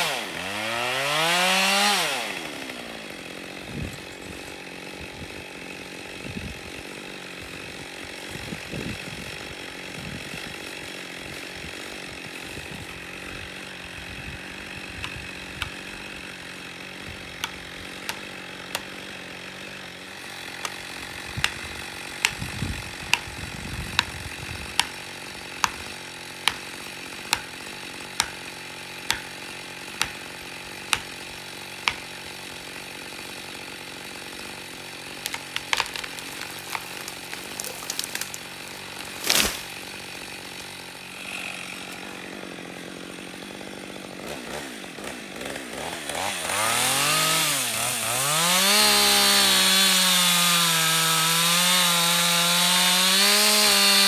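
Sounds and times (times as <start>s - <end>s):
chainsaw idling: 0.0s - 54.0s
chainsaw revving: 0.0s - 54.0s.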